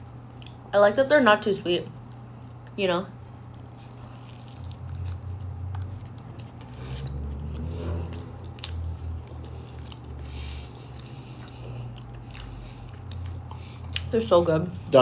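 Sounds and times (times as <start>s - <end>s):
chewing pastry: 0.3s - 15.0s.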